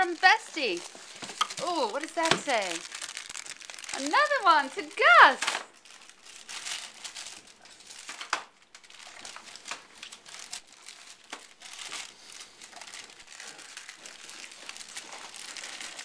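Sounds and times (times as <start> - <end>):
wrapping paper crinkling: 0.0 - 16.0.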